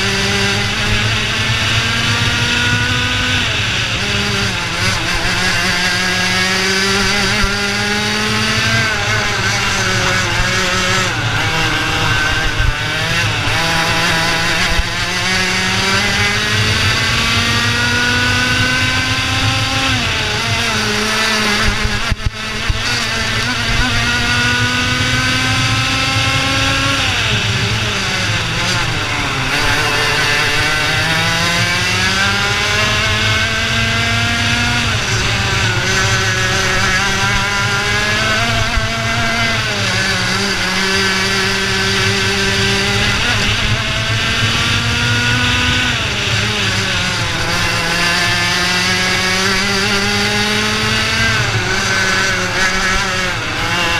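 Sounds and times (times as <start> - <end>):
kart engine revving: 0.0 - 53.9.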